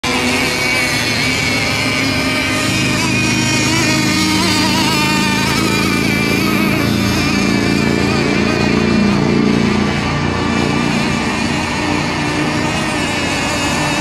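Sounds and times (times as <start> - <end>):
rc boat engines droning: 0.0 - 14.0.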